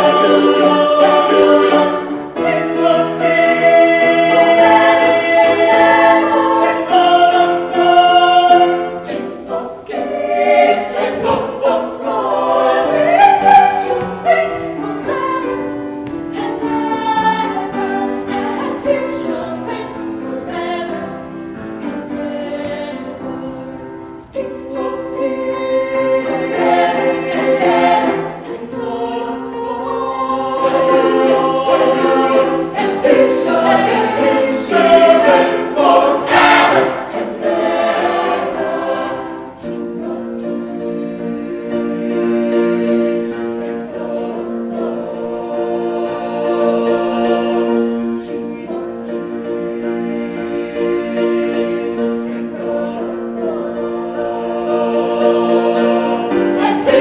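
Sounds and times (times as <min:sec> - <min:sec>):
mixed choir singing in harmony: 0:00.0 - 0:57.0.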